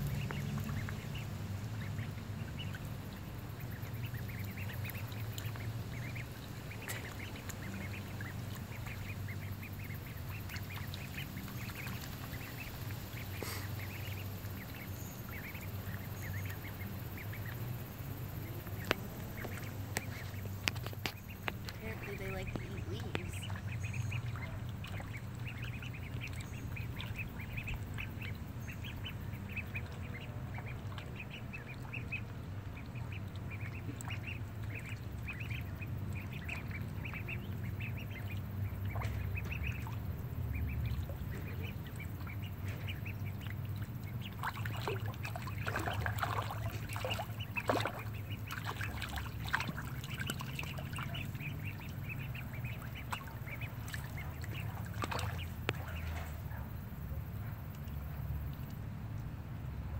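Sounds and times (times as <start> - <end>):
ducks quacking: 0.0 - 56.8
steady low hum: 0.0 - 59.9.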